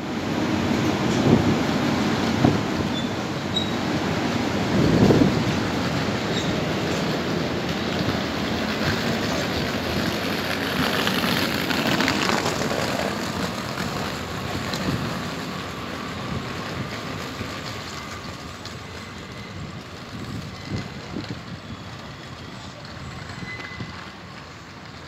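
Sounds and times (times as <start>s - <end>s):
electric locomotive running: 0.0s - 25.0s.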